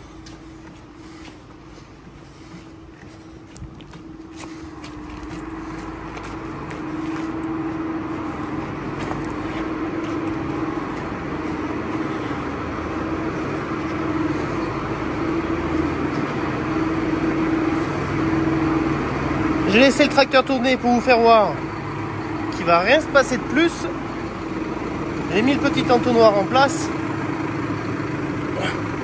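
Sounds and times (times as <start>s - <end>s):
diesel tractor engine idling: 0.0s - 29.0s.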